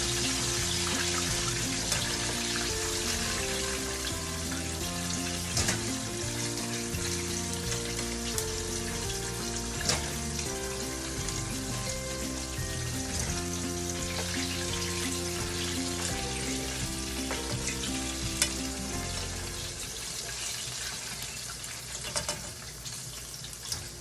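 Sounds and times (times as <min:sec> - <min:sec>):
background music: 0:00.0 - 0:20.3
oil sizzling: 0:00.0 - 0:24.0.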